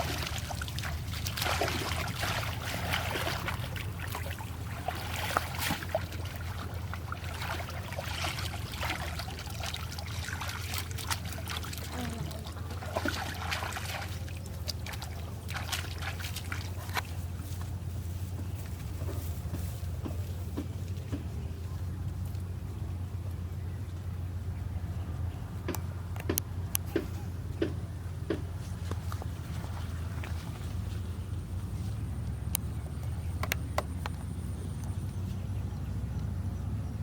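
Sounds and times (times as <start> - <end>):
water splashing and trickling: 0.0 - 22.8, 28.5 - 36.0
low hum: 0.0 - 37.0.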